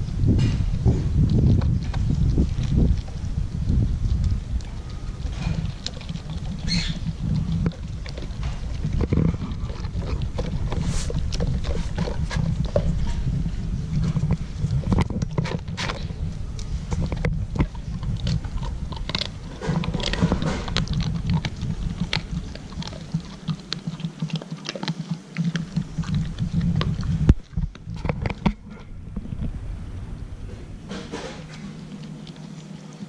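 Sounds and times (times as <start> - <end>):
wind rumble on microphone: 0.0 - 24.1, 25.4 - 32.3
dog chewing and licking: 0.0 - 33.0.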